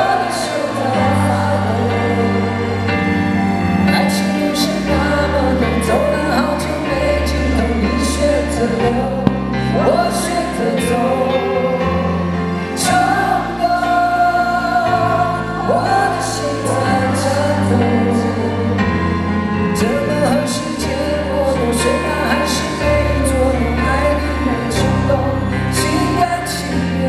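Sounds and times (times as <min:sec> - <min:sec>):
person singing: 0:00.0 - 0:27.0.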